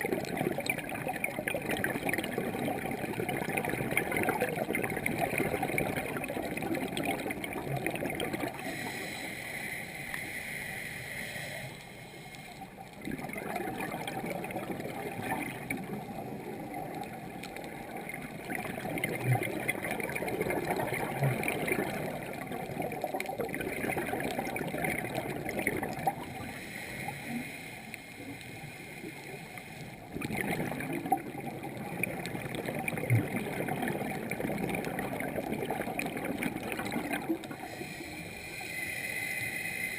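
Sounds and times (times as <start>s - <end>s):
underwater exhaled bubbles gurgling: 0.0s - 10.2s, 11.4s - 39.9s.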